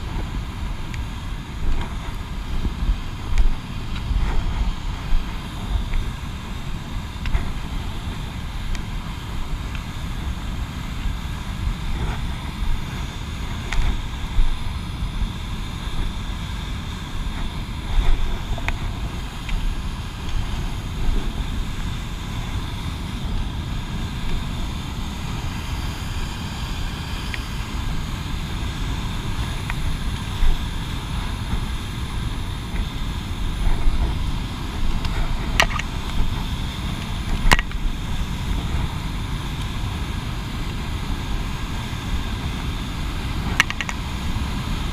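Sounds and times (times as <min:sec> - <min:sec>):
wind rumbling on microphone: 0:00.0 - 0:44.9.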